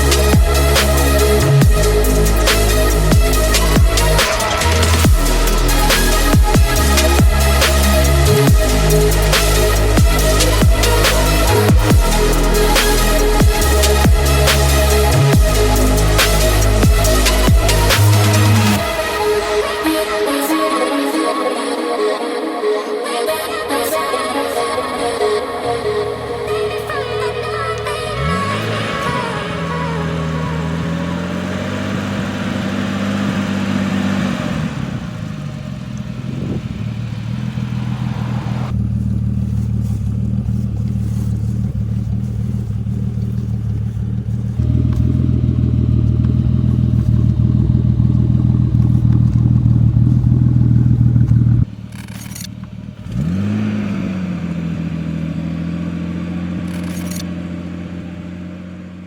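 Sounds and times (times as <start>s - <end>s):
car engine revving: 0.0s - 21.7s, 23.3s - 59.0s.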